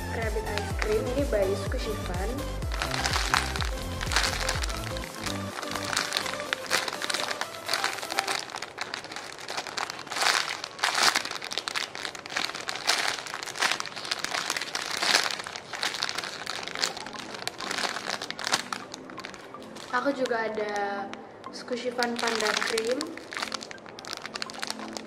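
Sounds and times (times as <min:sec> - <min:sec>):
plastic bag crinkling: 0:00.0 - 0:21.2, 0:21.8 - 0:25.0.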